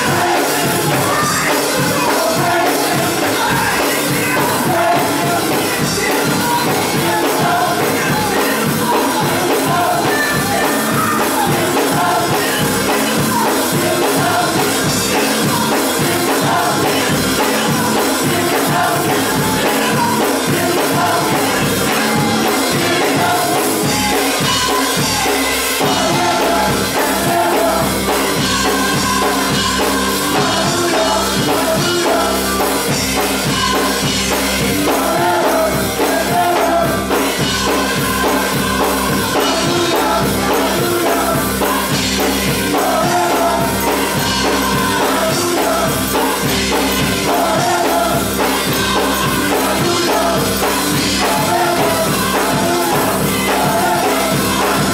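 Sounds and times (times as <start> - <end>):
church choir singing: 0.0 - 54.9
drum kit and bass beat: 0.0 - 54.9.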